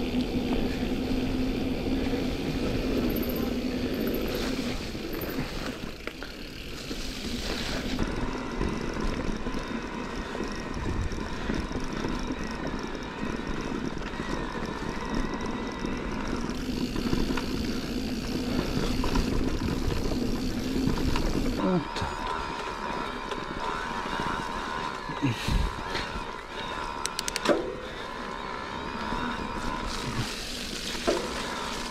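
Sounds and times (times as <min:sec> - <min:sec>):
electric bike motor whining: 0:00.0 - 0:31.9
tyres rolling on dirt trail: 0:00.0 - 0:31.9.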